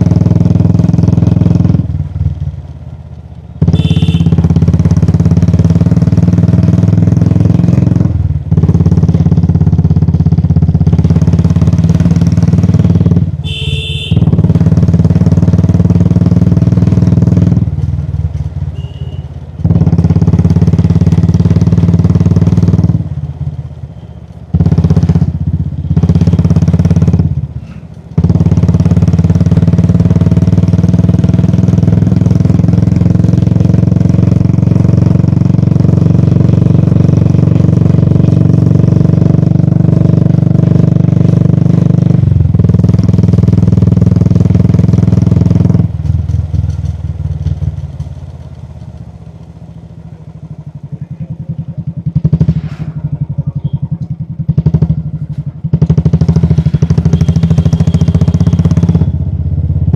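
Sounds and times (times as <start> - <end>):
motorcycle engine running under load: 0.0 - 59.9.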